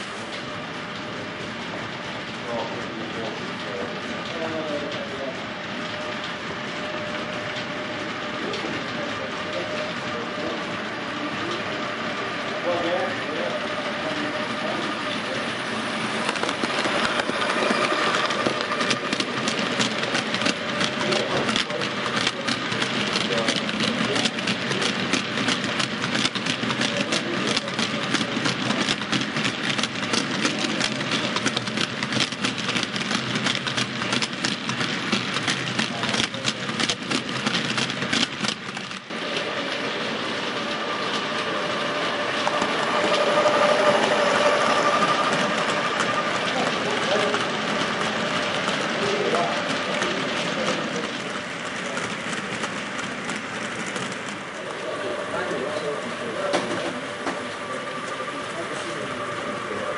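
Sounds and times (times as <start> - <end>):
model train rolling rumble: 0.0 - 59.9
model train wheels clicking: 0.3 - 59.9.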